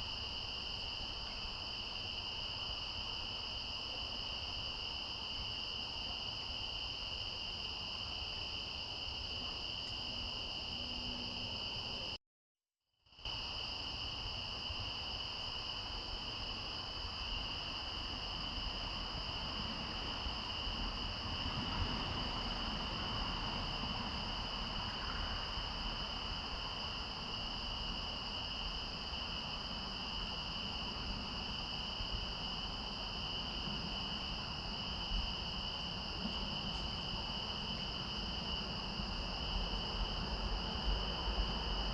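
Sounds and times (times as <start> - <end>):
crickets chirping: 0.0 - 12.2, 13.1 - 41.9.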